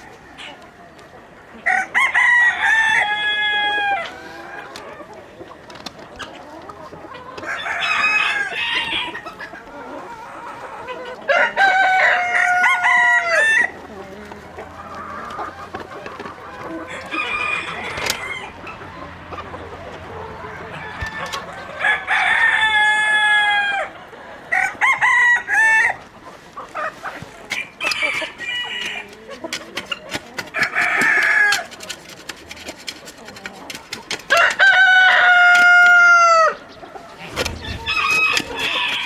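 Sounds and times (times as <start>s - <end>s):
chickens clucking quietly: 0.0s - 39.0s
roosters crowing: 1.6s - 5.1s, 6.6s - 26.1s, 26.7s - 39.0s.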